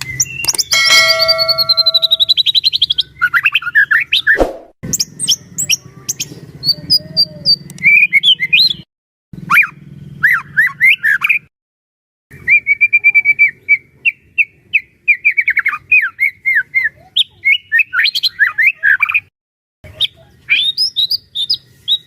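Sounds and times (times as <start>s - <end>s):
bird singing varied whistled song: 0.0s - 0.9s, 1.6s - 11.4s, 12.4s - 19.2s, 19.9s - 22.0s.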